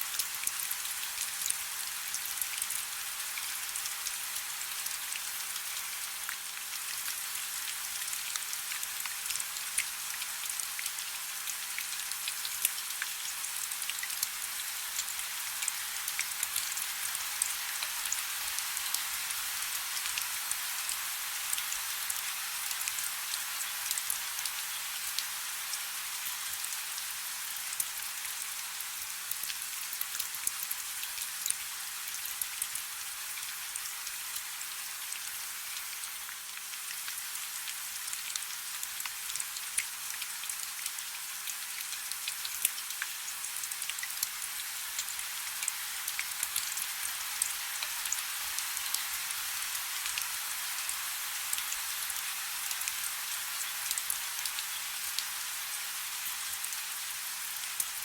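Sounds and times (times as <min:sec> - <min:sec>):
soft rain with drop ticks: 0:00.1 - 0:58.0.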